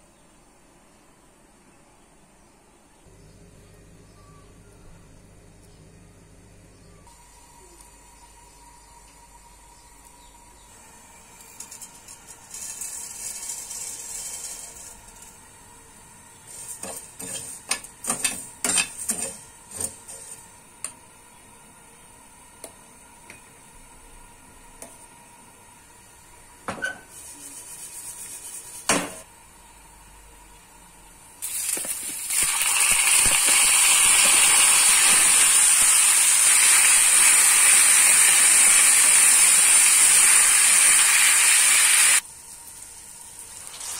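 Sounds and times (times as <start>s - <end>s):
loud steady sizzle: 7.1s - 43.9s.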